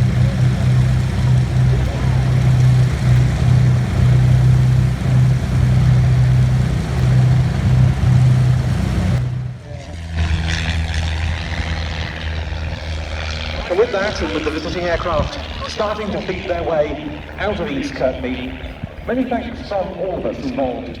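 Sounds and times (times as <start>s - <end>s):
engine running loudly: 0.0s - 21.0s
low engine hum: 0.0s - 21.0s.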